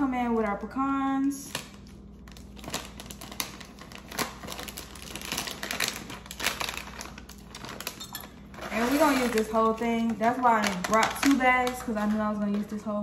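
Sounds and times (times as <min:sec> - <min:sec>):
plastic bag crinkling: 0:01.4 - 0:13.0.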